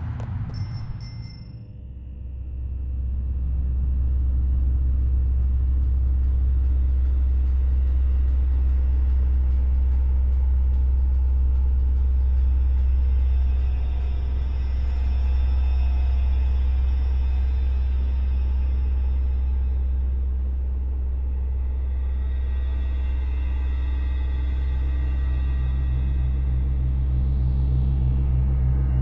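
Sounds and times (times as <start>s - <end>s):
deep rumble: 0.0s - 29.0s.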